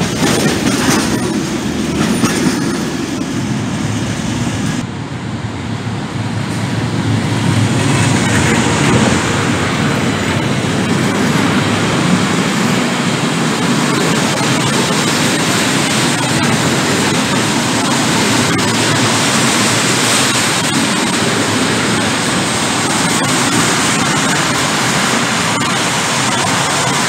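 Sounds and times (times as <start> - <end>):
train wheels rushing on rail: 0.0 - 27.0.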